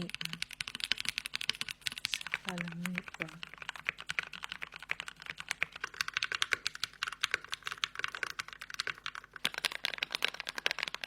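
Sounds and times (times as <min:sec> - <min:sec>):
fast typing on computer keyboard: 0:00.0 - 0:11.0.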